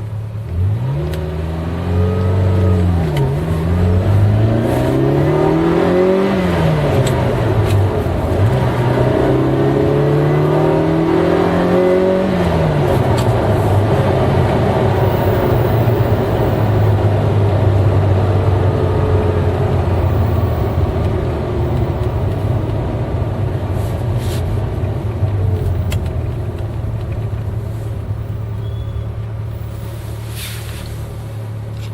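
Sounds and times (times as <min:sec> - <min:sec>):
car engine running: 0:02.8 - 0:31.9.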